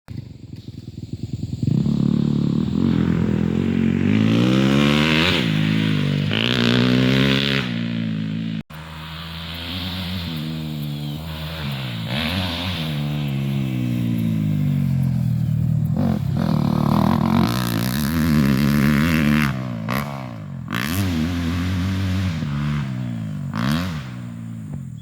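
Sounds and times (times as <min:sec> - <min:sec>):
dirt bike engine revving: 0:00.1 - 0:25.0.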